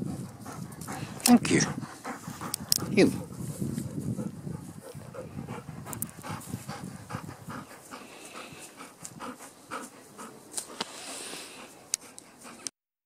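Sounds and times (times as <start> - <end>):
dog panting: 0.0 - 12.8.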